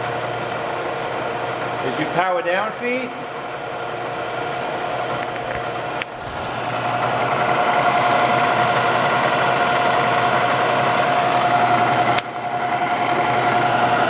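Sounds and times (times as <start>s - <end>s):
milling machine whining: 0.0s - 14.0s.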